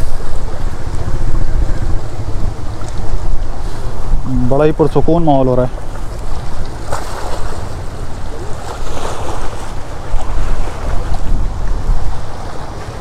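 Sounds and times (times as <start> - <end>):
choppy water rushing: 0.0 - 13.0
wind buffeting microphone: 0.0 - 13.0.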